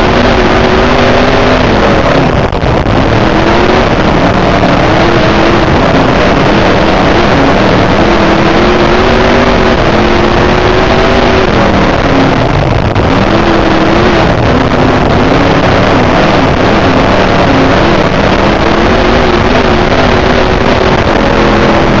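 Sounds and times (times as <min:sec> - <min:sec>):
race car engine revving: 0:00.0 - 0:22.0
wind and track noise: 0:00.0 - 0:22.0.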